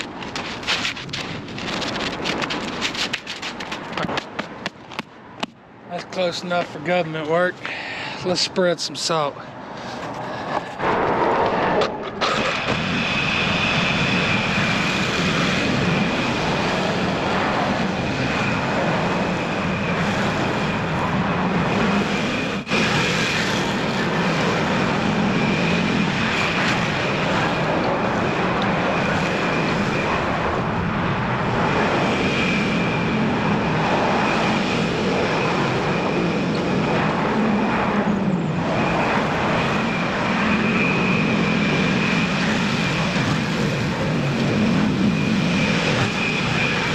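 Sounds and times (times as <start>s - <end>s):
high whine: 0.0s - 46.9s.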